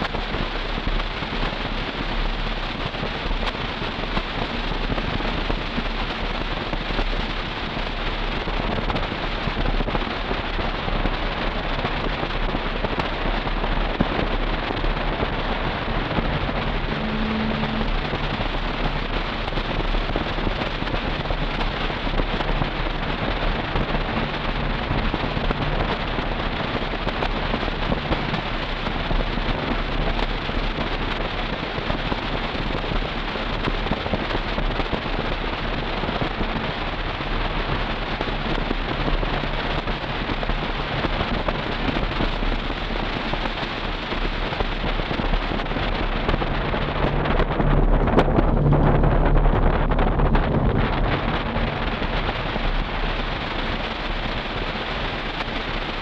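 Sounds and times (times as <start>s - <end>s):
low engine drone: 0.0s - 56.0s
road and wind noise in car: 0.0s - 56.0s.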